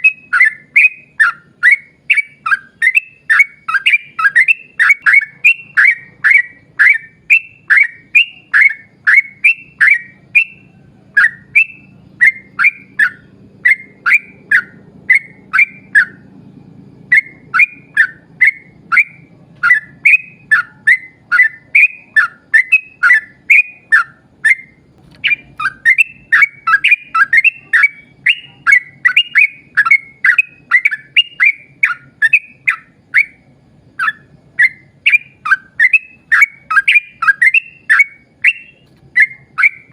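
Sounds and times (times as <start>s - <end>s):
bulbul whistled song: 0.0s - 39.9s.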